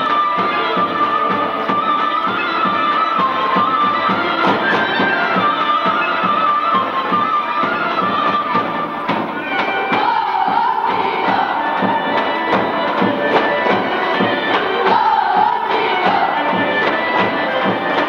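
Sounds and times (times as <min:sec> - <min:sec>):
folk dance music: 0:00.0 - 0:18.0.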